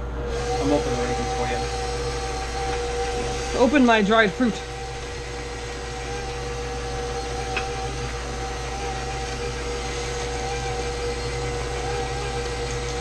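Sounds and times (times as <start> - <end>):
stand mixer motor whine: 0.0 - 13.0.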